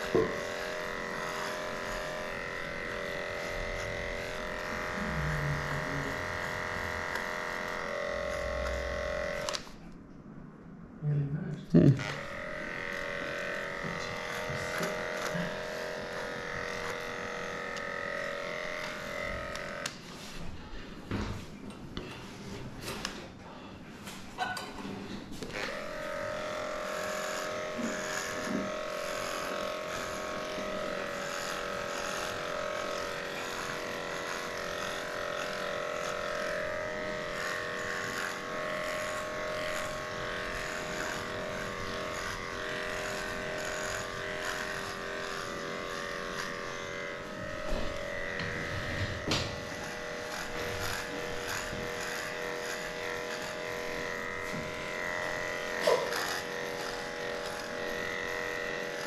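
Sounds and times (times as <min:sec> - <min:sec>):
electric clipper buzzing: 0:00.0 - 0:09.8, 0:11.8 - 0:20.4, 0:25.4 - 0:59.0.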